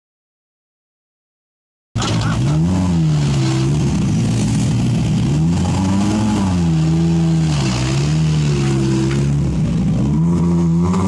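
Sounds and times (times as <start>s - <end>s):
rally car engine revving: 2.0s - 11.0s.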